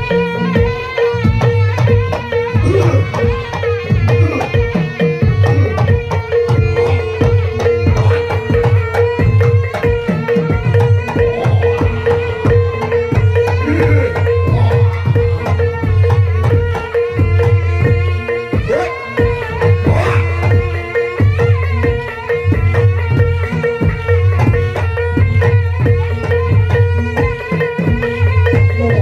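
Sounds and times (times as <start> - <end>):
hand drums beating fast: 0.0 - 29.0
pitched melodic lines: 0.0 - 29.0
steady held tone: 0.2 - 29.0.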